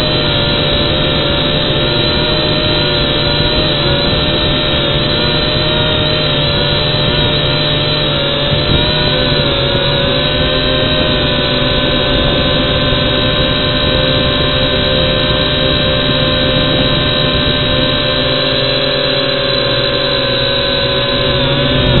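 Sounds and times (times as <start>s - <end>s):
quadcopter propellers whining: 0.0s - 22.0s.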